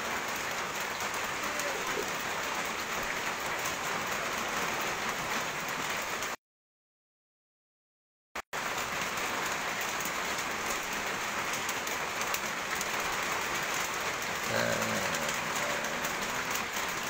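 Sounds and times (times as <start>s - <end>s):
steady rain falling: 0.0s - 6.4s, 8.6s - 17.0s.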